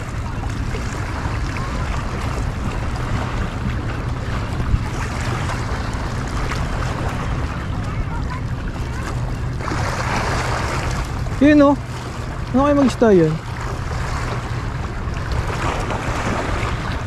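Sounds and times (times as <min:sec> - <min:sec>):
sea water washing against rocks: 0:00.0 - 0:17.0
wind rumbling on microphone: 0:00.0 - 0:17.0.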